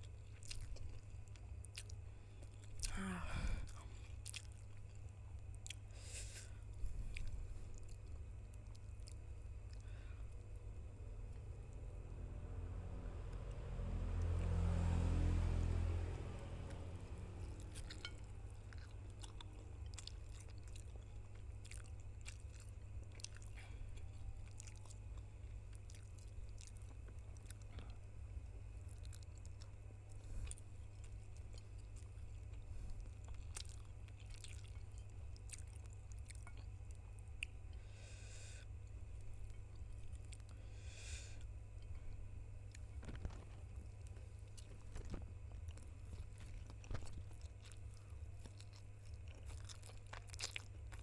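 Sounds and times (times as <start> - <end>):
close chewing with mouth clicks: 0.0 - 3.0, 3.6 - 10.6, 14.2 - 51.0
low hum: 0.0 - 51.0.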